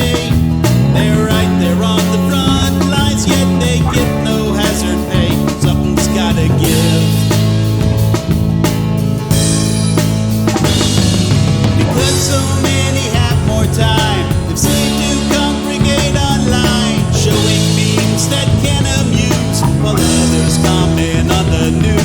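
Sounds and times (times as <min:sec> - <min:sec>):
held guitar chords: 0:00.0 - 0:22.0
rock drum kit: 0:00.0 - 0:22.0.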